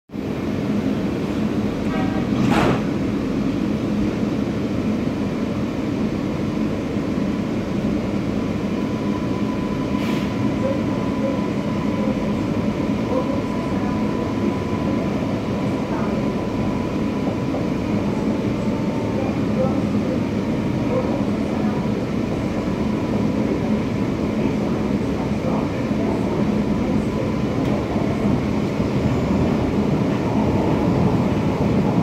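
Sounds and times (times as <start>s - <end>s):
metro car rumble on rails: 0.1s - 32.0s.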